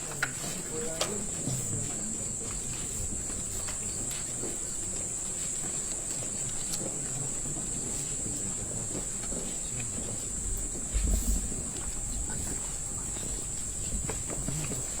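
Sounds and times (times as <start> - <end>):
insects chirping: 0.6 - 15.0.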